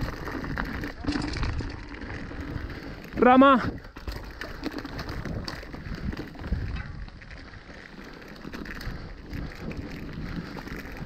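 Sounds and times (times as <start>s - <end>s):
bike tyres crunching over stones: 0.0s - 11.0s
chain and frame rattling: 0.0s - 11.0s
wind buffeting microphone: 0.0s - 11.0s.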